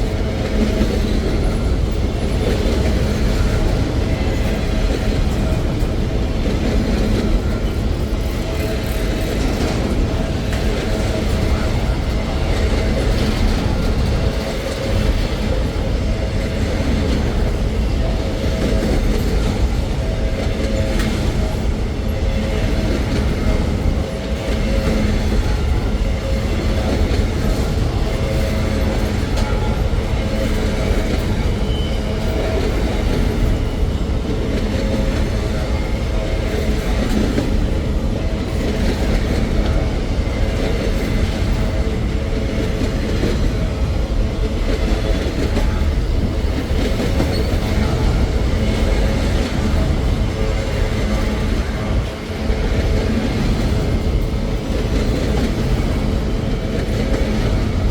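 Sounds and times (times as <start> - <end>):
freight wagons rumbling: 0.0 - 57.9.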